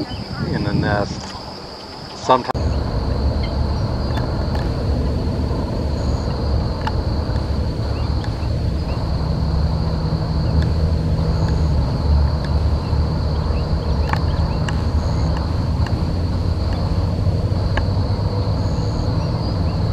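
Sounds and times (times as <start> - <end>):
high-pitched insect drone: 0.0 - 19.9
wind buffeting microphone: 0.0 - 19.9.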